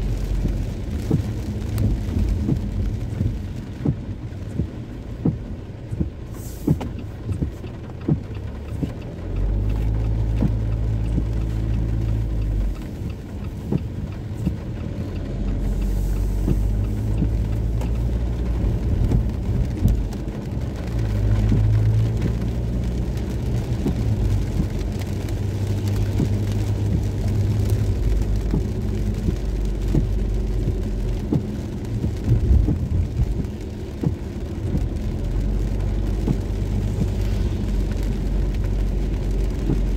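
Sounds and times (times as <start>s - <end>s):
city traffic: 0.0s - 39.9s
heavy low rumble: 0.0s - 39.9s
rain: 0.0s - 39.9s.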